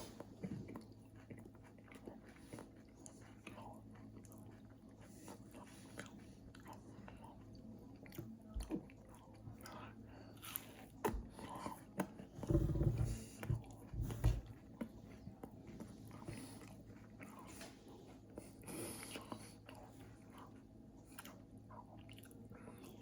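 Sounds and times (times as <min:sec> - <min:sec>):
person chewing and crunching: 0:00.0 - 0:23.0.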